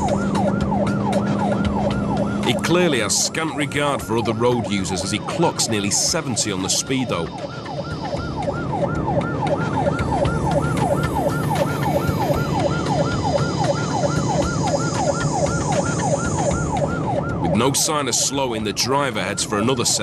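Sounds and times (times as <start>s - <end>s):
car engine and road noise: 0.0s - 20.0s
police siren yelping: 0.0s - 20.0s.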